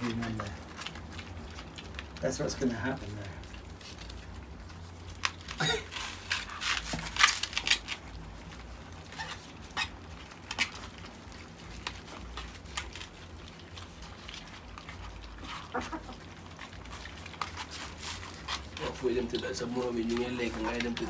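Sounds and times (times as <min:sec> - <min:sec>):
puppies eating from a tray: 0:00.0 - 0:21.0.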